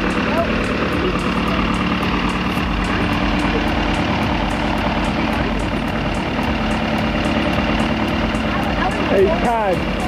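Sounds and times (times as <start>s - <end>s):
aircraft engine idling: 0.0s - 10.0s.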